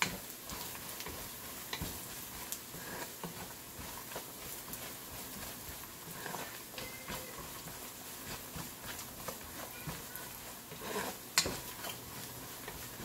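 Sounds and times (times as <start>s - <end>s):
onion sizzling in hot oil: 0.0s - 13.0s
spatula scraping pot: 0.0s - 13.0s.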